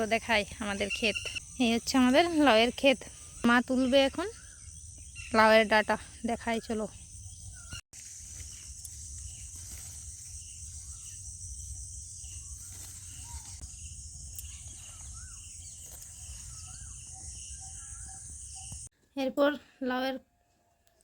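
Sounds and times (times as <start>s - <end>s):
crickets droning: 0.0s - 18.9s
bird chirps: 0.6s - 18.9s.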